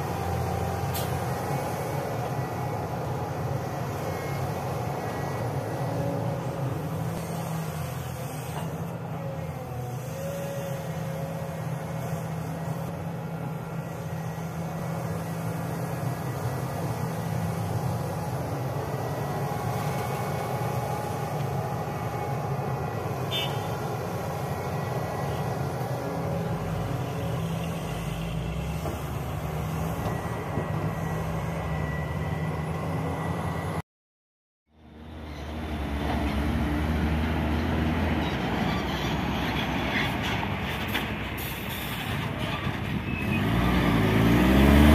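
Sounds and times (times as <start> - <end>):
excavator diesel engine droning: 0.0 - 33.8, 34.7 - 44.9.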